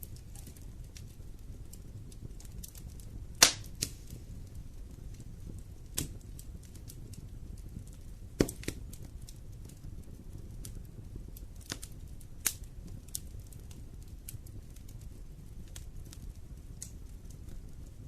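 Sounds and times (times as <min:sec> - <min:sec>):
low rush of flame: 0:00.0 - 0:18.0
wood fire crackling and popping: 0:00.0 - 0:18.0.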